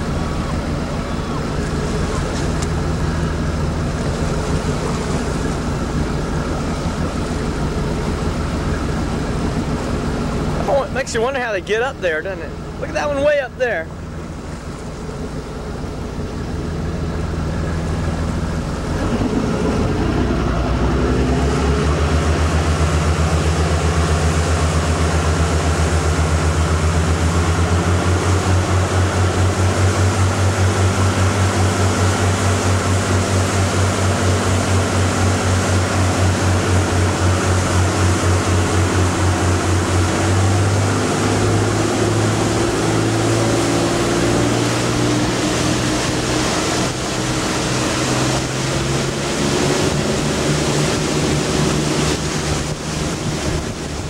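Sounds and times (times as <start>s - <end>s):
boat engine throbbing: 0.0s - 54.0s
hiss of wind and water: 0.0s - 54.0s.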